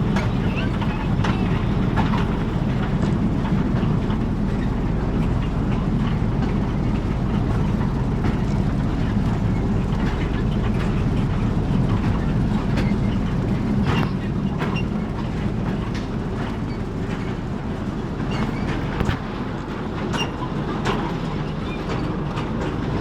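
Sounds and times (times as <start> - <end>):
train running noise: 0.0 - 23.0
wheels clattering on rails: 0.0 - 23.0.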